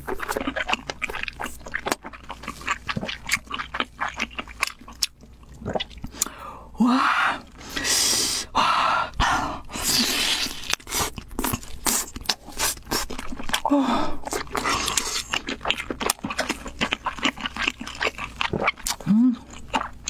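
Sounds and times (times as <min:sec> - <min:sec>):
wet eating and chewing: 0:00.0 - 0:06.4, 0:07.4 - 0:20.0.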